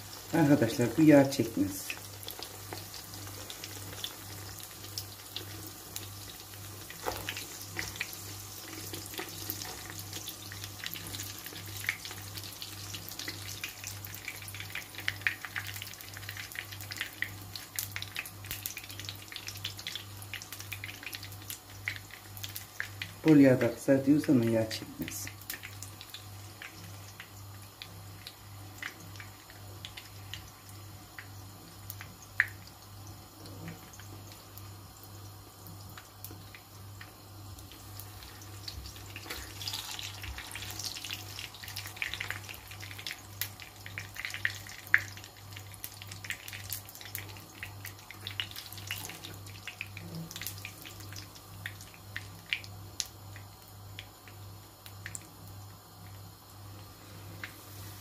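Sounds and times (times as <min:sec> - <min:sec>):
dough sizzling in hot oil: 0:00.0 - 0:58.0.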